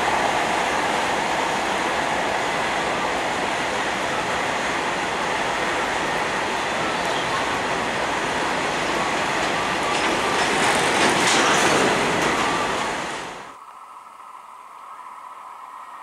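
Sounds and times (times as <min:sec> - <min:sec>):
train rumble with wheel clatter: 0:00.0 - 0:13.6.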